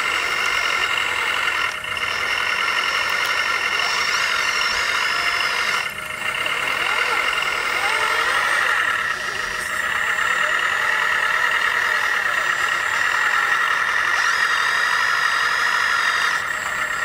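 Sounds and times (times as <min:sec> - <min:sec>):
electric motors whining: 0:00.0 - 0:17.0
higher thin whine: 0:00.6 - 0:17.0.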